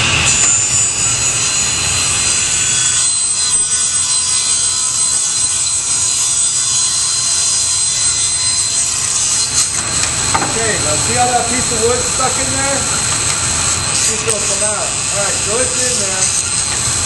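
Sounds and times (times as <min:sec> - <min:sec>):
table saw blade whining: 0:00.0 - 0:17.0.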